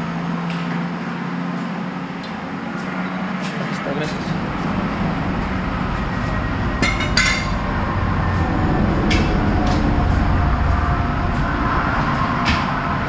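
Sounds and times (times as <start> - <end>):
low rumble: 2.0 - 13.0.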